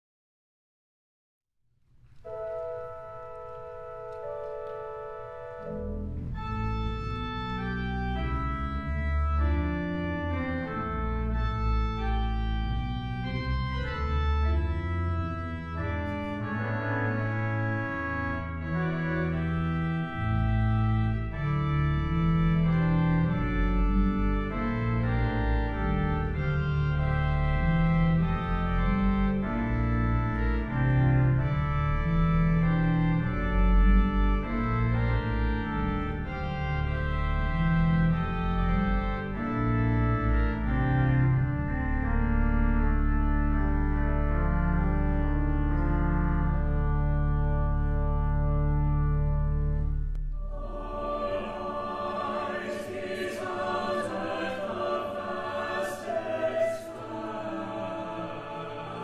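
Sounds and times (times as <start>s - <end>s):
organ chords: 2.1s - 59.0s.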